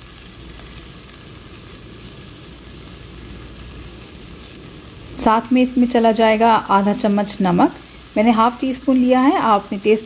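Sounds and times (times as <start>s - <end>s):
chicken frying in a pot: 0.0s - 10.0s.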